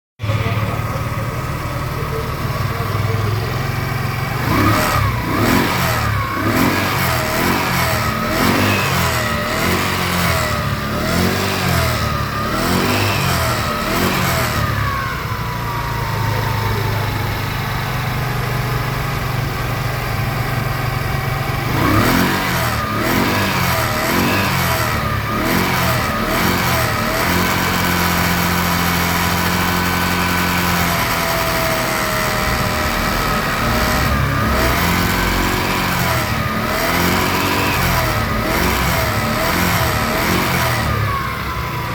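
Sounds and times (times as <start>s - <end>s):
scooter engine revving: 0.2s - 41.9s.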